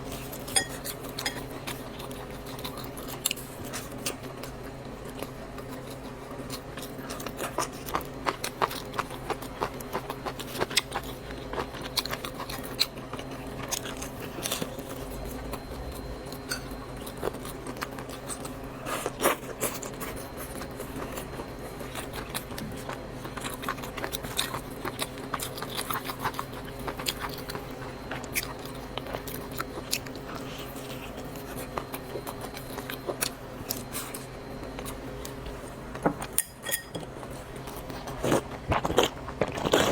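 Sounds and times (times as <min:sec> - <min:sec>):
person chewing noodles: 0:00.0 - 0:36.5, 0:37.1 - 0:39.9.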